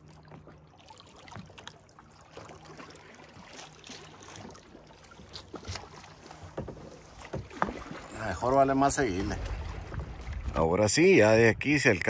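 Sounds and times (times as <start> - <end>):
paddle splashes: 0.0 - 11.0
faint water sloshing: 0.0 - 11.6.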